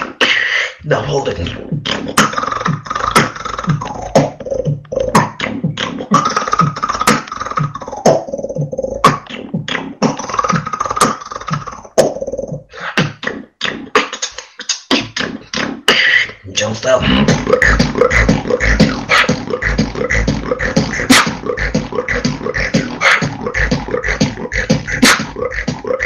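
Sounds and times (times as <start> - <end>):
vocal beatboxing: 0.0 - 26.0.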